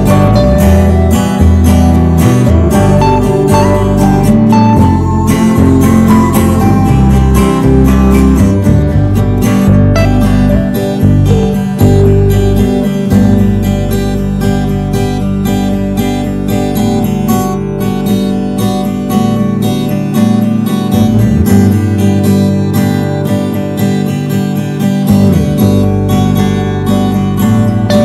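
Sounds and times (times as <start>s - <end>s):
country song with acoustic guitar: 0.0s - 28.0s.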